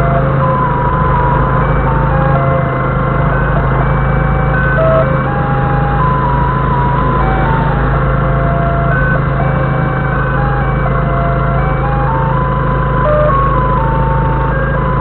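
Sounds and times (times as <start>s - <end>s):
electronic melody of held notes: 0.0s - 15.0s
forklift engine idling: 0.0s - 15.0s.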